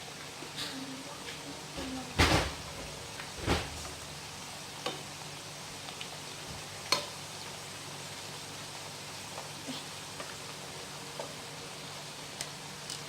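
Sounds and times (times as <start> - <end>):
oil sizzling in a pan: 0.0 - 13.0.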